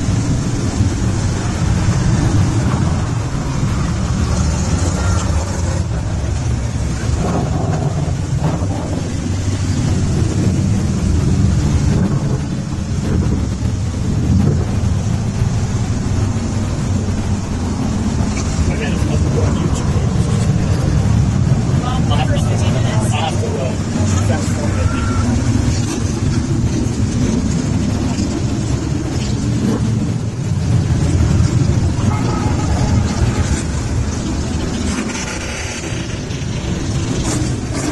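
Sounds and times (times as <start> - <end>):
many motorcycle engines droning: 0.0 - 37.9.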